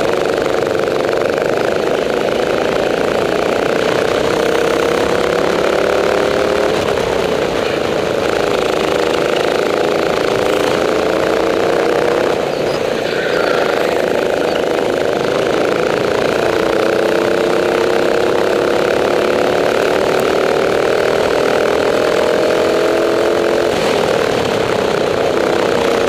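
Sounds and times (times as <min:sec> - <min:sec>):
go-kart engine revving: 0:00.0 - 0:26.0.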